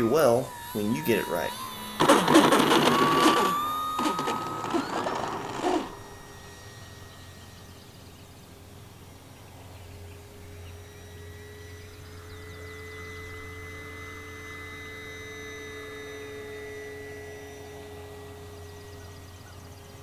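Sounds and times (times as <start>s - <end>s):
model plane motor whine: 0.0s - 20.0s.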